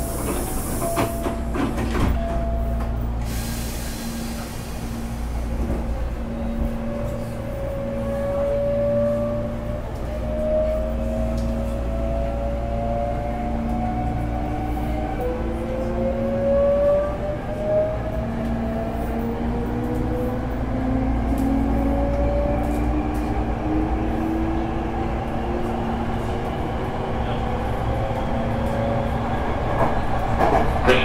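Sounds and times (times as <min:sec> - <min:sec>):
wheels rumbling on rails: 0:00.0 - 0:31.0.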